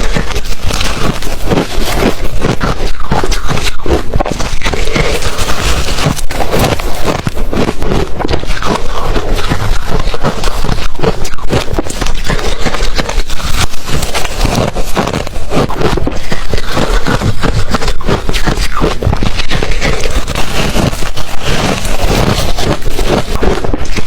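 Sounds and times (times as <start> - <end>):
ice crunching while chewed: 0.0 - 24.0.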